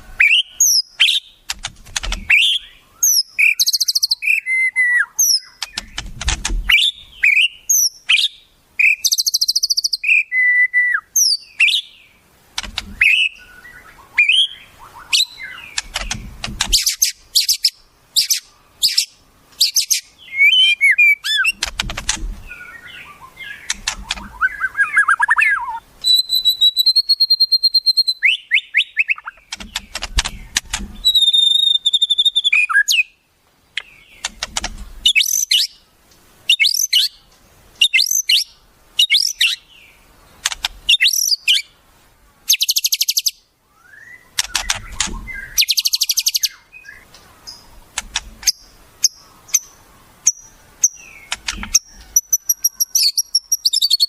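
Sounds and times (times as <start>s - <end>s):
songbird calls: 0.0s - 41.8s, 42.4s - 54.0s.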